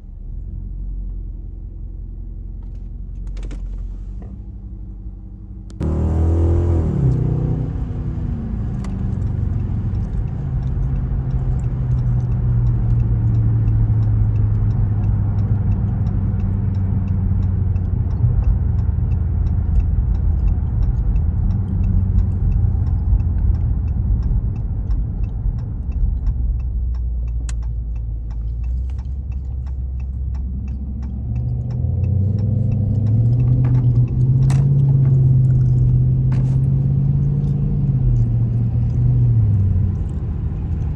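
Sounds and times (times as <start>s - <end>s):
car engine from inside: 0.0s - 40.9s.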